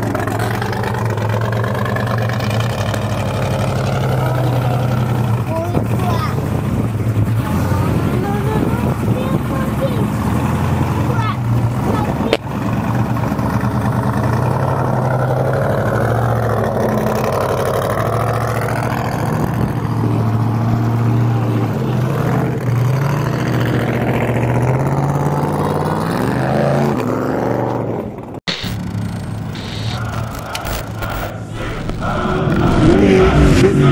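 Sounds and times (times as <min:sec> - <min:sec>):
truck engine revving: 0:00.0 - 0:33.9.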